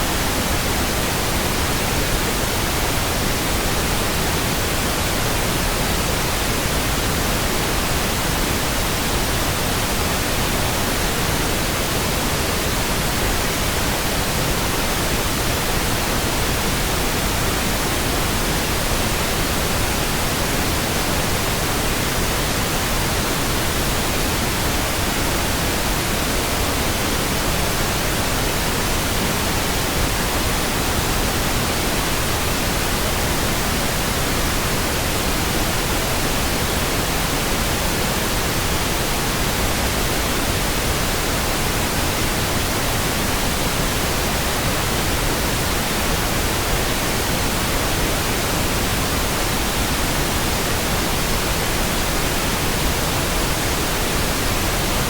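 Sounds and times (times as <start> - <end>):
steady pink noise hiss: 0.0 - 55.0.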